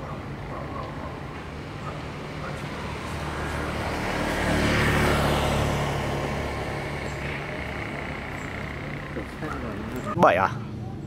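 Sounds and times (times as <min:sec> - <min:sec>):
vehicle driving past: 0:00.0 - 0:11.0.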